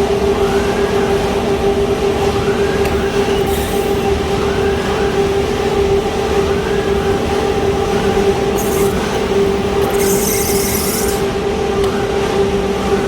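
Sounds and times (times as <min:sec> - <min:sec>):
production line machinery hum: 0:00.0 - 0:13.0.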